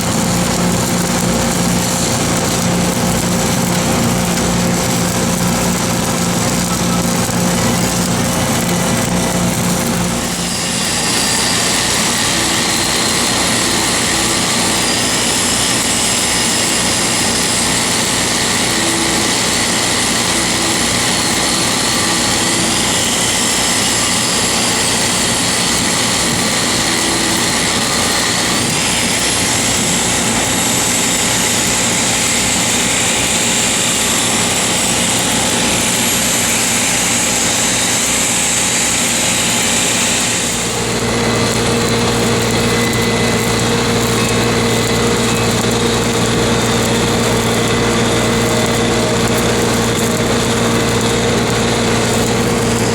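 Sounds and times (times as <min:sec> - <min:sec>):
welding arc crackling and hissing: 0:00.0 - 0:52.9.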